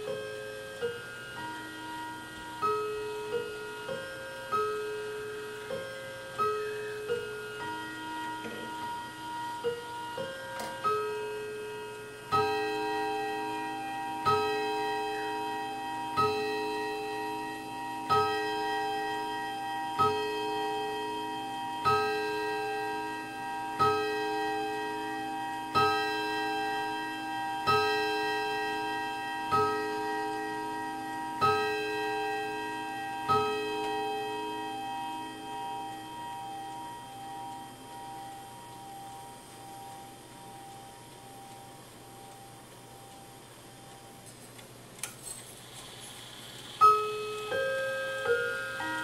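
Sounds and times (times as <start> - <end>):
mantel clock striking on chime rods: 0.0 - 44.2, 45.9 - 49.0.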